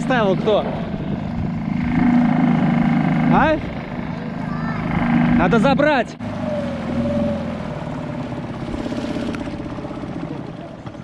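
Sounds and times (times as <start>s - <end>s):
small outboard motor running: 0.0s - 11.0s.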